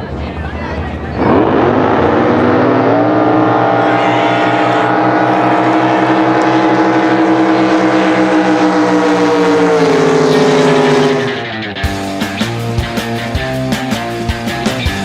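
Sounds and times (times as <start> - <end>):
boat engine at full throttle: 0.0 - 12.1.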